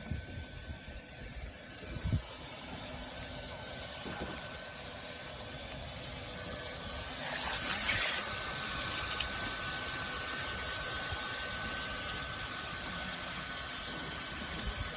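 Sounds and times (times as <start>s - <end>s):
high-pitched whine: 0.0s - 14.9s
welding machine humming: 0.0s - 14.9s.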